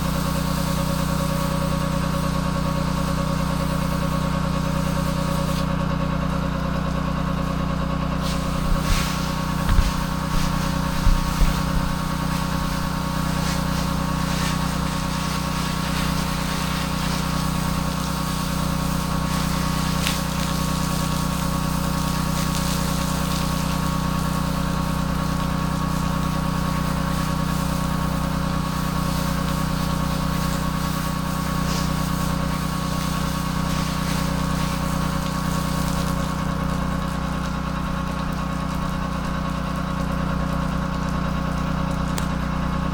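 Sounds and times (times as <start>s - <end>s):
pressure washer engine running: 0.0s - 42.9s.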